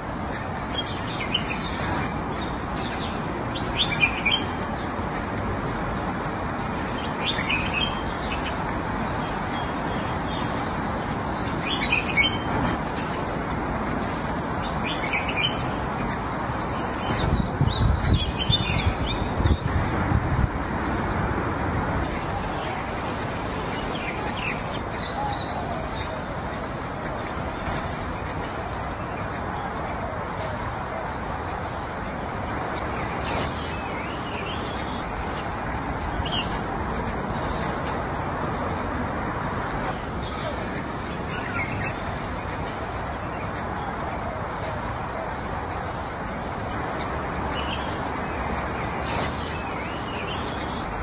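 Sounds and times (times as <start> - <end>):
outdoor hiss: 0.0 - 51.0
small birds chirping: 0.0 - 51.0.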